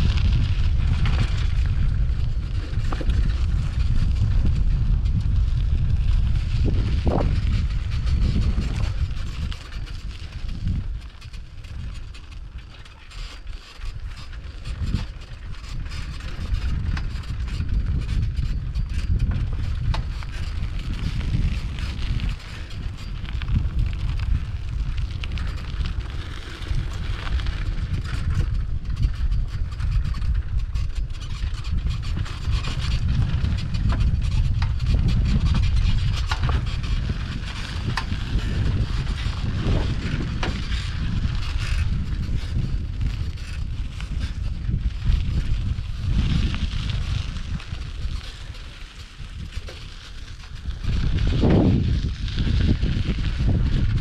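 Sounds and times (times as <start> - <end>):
bicycle clicks and rattles: 0.0 - 54.0
wind rumbling on microphone: 0.0 - 54.0.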